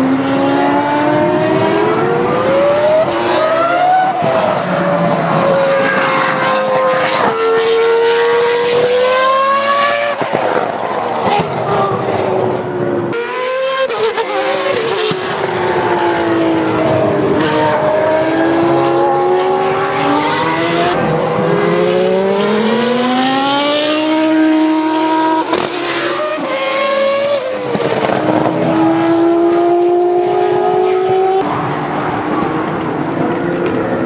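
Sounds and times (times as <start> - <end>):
racing car engines at high revs: 0.0 - 34.0.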